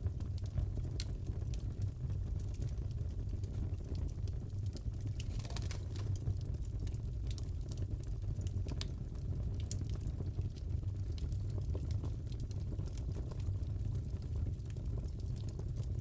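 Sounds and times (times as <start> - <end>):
fire popping and crackling: 0.0 - 16.0
wood fire rumble: 0.0 - 16.0.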